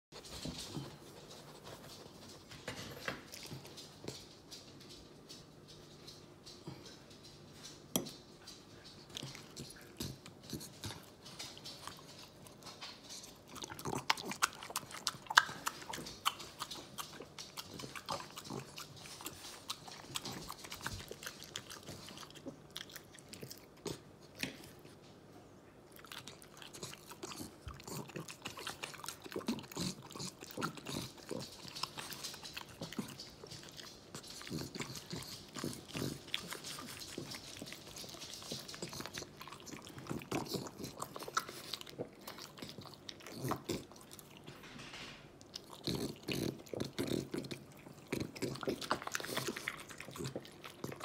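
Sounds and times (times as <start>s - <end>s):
dog chewing and licking: 0.1s - 25.1s, 25.8s - 51.0s.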